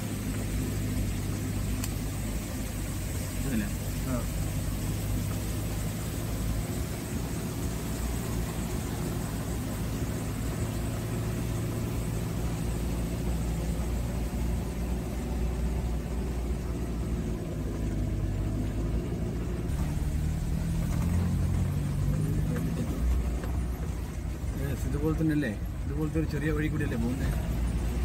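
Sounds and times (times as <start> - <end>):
car engine running: 0.0 - 28.0
road noise: 0.0 - 28.0.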